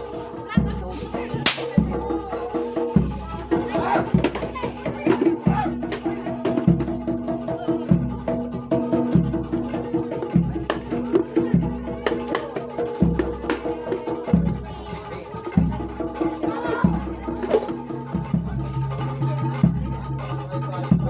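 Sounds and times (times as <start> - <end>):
bass drum beating: 0.0 - 21.0
quick percussion strokes: 0.0 - 21.0.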